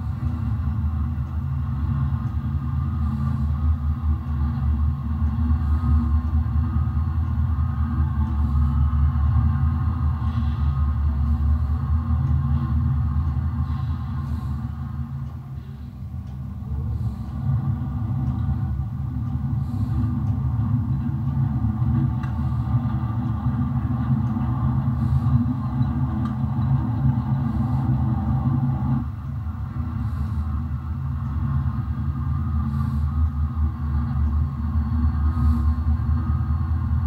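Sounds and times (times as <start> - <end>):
model train rumbling: 0.0 - 37.0.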